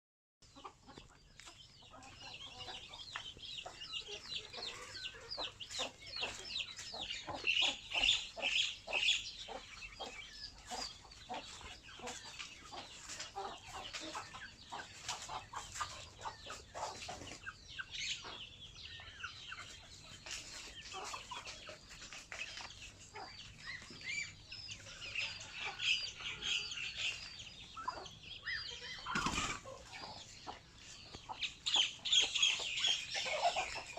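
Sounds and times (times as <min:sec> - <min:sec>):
chickens clucking and calling: 0:00.4 - 0:33.9.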